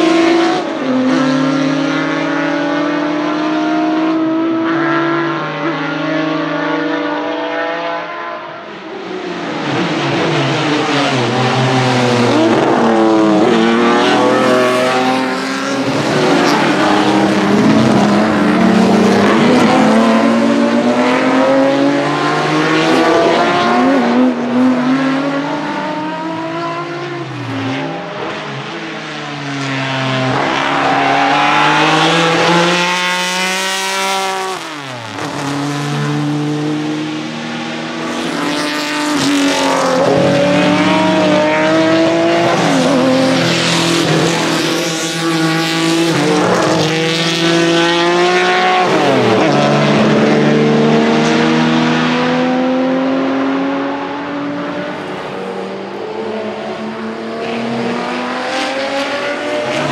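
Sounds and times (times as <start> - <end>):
race car engines revving: 0.0 - 59.9
race cars passing by: 0.0 - 59.9.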